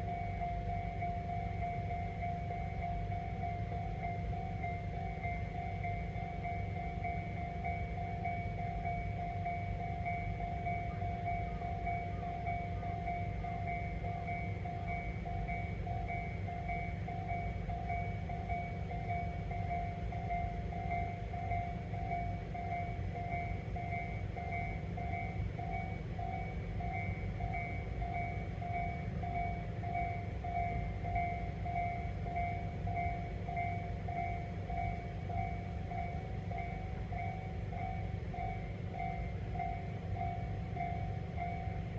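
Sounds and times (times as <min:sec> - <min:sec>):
level crossing warning bell: 0:00.0 - 0:41.9.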